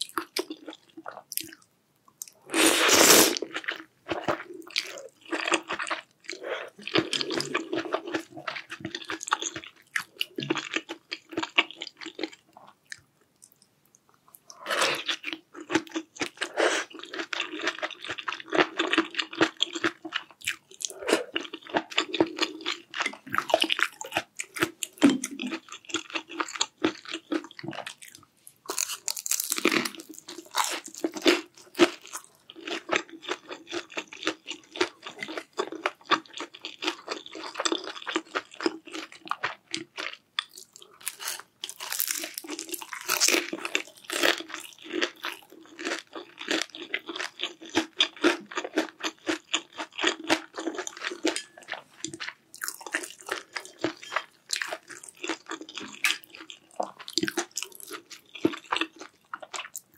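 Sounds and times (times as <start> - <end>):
chewing and crunching: 3.4 - 13.7, 14.3 - 59.9.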